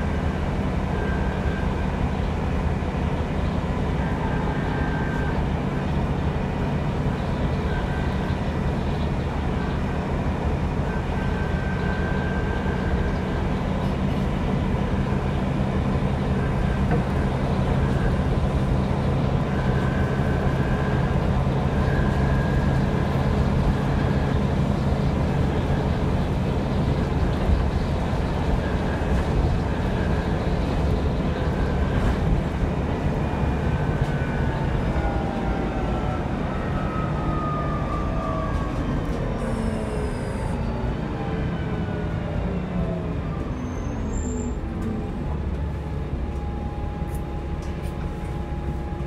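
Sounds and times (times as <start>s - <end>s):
bus engine drone: 0.0s - 49.0s
road noise: 0.0s - 49.0s.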